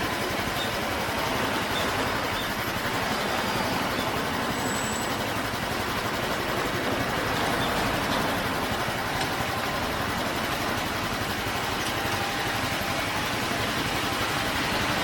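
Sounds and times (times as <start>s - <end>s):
cars and trucks running: 0.0s - 15.0s.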